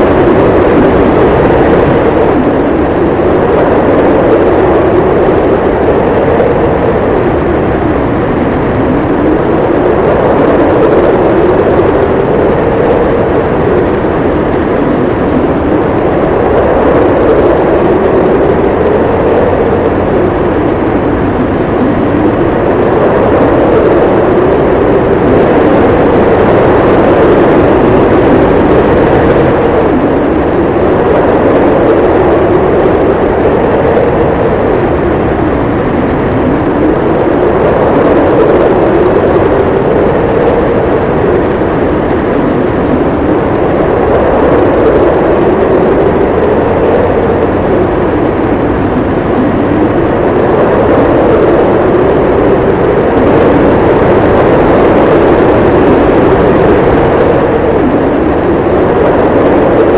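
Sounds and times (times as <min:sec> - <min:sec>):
howling blizzard wind: 0:00.0 - 0:59.9.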